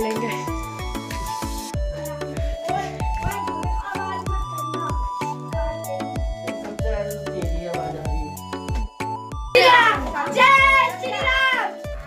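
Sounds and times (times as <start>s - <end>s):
music with low drum beat: 0.0s - 12.0s.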